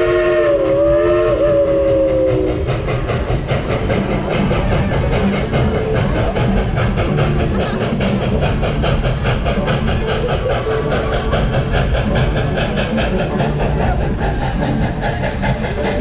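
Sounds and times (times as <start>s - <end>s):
steam locomotive chugging: 0.0s - 16.0s.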